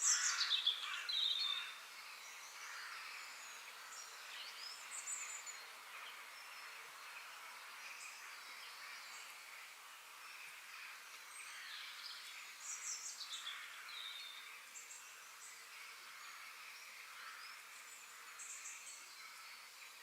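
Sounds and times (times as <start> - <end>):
small birds chirping: 0.0 - 20.0
steady background hiss: 0.0 - 20.0.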